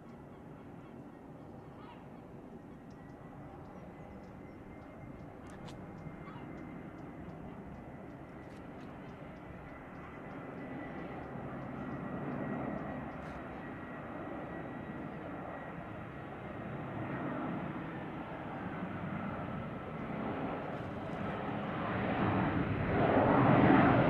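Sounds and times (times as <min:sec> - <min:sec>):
jet engines running: 0:02.2 - 0:24.0.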